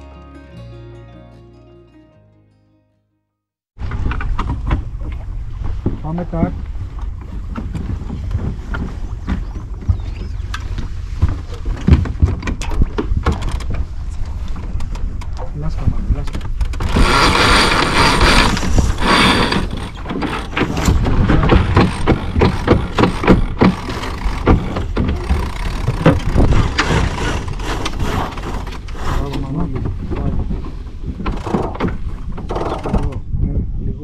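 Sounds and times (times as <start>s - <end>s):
wind rumble on microphone: 3.8s - 34.0s.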